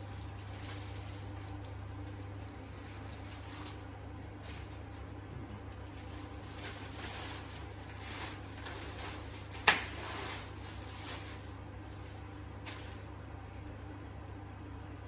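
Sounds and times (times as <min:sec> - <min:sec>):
packaging rustling: 0:00.0 - 0:05.1, 0:05.7 - 0:13.0
steady low hum: 0:00.0 - 0:15.0.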